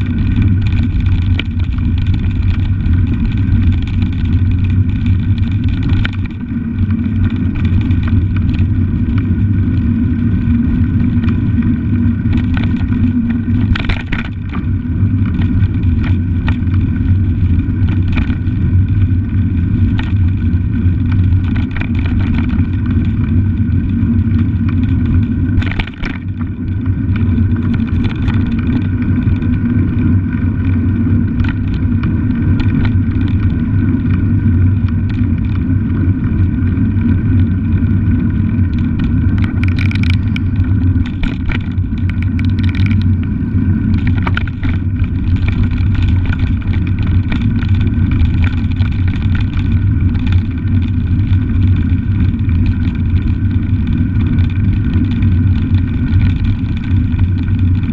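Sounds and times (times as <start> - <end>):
small clicks and rattles: 0.0 - 57.9
tyre noise on wet pavement: 0.0 - 57.9
wind on microphone: 0.0 - 57.9.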